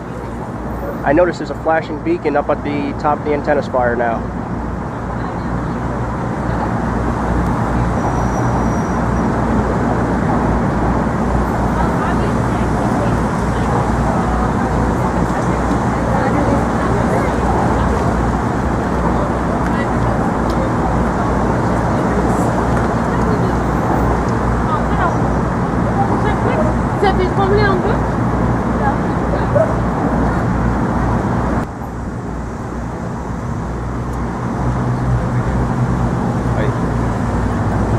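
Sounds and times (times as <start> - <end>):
road traffic rumble: 0.0 - 37.9.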